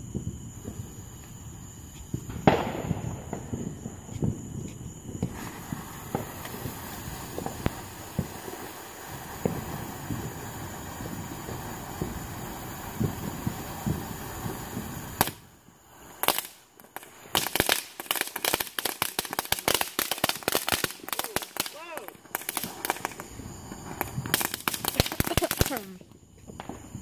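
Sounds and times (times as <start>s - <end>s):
fireworks crackling pops: 0.0s - 27.0s
fireworks pops and bangs: 0.0s - 27.0s
steady background hiss: 0.0s - 27.0s.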